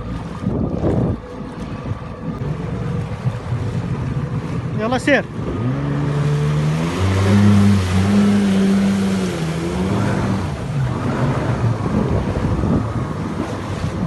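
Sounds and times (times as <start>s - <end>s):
jet ski engine running: 0.0s - 14.0s
wind and water rushing: 0.0s - 14.0s.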